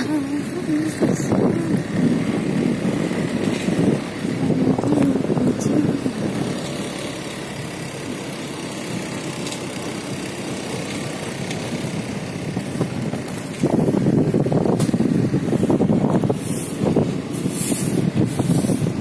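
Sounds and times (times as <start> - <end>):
road noise: 0.0 - 19.0
scooter engine running: 0.0 - 19.0.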